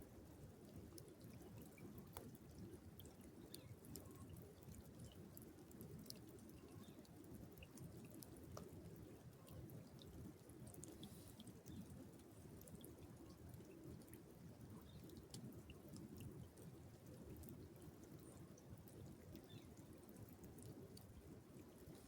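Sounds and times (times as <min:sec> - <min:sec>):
faint river water: 0:00.0 - 0:22.0
light drips and ticks: 0:00.0 - 0:22.0.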